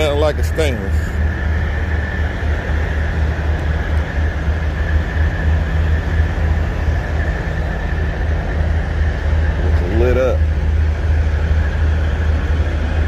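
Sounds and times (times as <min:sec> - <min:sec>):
diesel engines idling: 0:00.0 - 0:13.0
thin steady whine: 0:00.0 - 0:13.0.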